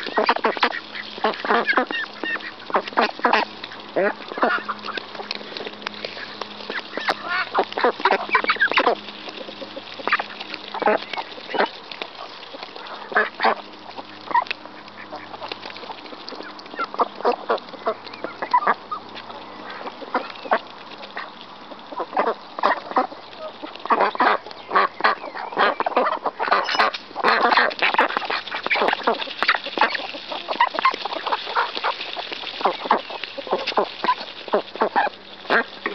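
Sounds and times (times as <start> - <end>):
duck bills pecking grain: 0.0 - 35.9
ducks quacking: 0.0 - 35.9.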